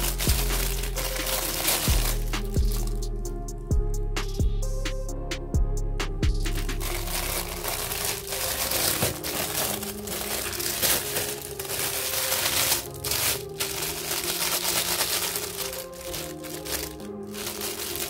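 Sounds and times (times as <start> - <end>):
foil wrapper crinkling: 0.0 - 3.0, 6.5 - 18.0.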